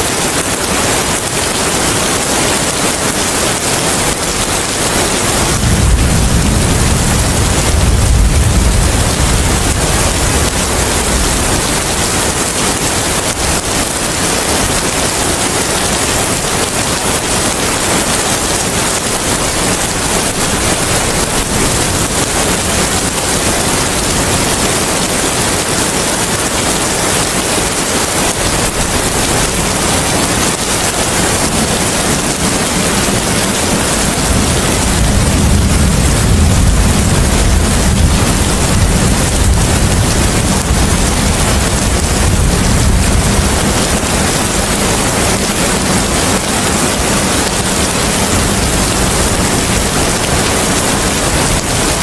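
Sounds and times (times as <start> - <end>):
steady rain falling: 0.0 - 52.0
low rumble of wind or thunder: 3.7 - 52.0.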